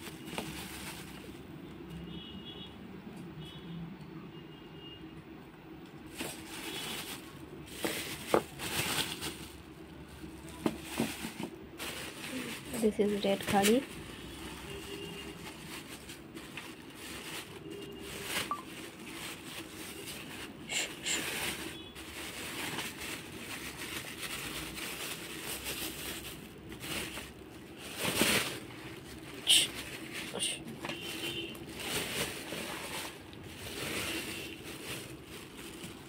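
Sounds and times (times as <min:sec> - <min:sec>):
plastic bag rustling: 0:00.0 - 0:01.4, 0:06.0 - 0:36.0.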